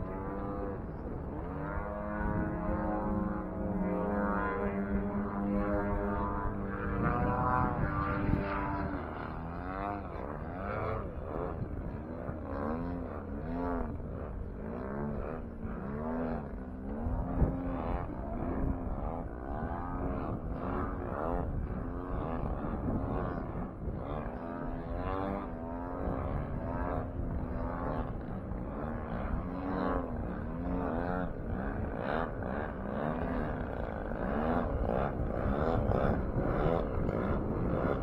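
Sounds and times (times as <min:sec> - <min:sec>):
model airplane engine and propeller: 0:00.0 - 0:38.0.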